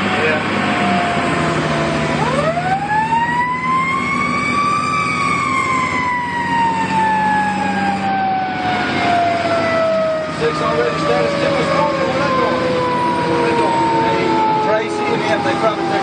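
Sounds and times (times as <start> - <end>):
fire engine siren: 0.0 - 16.0.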